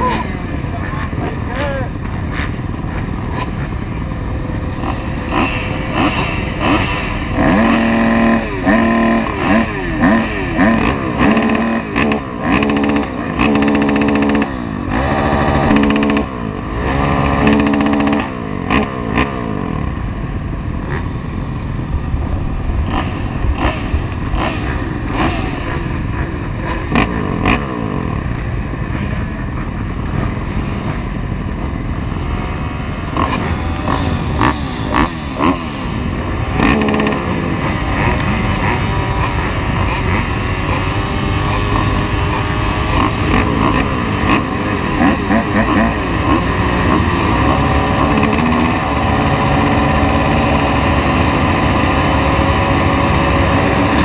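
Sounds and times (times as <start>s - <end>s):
motocross bikes revving and idling: 0.0s - 54.0s.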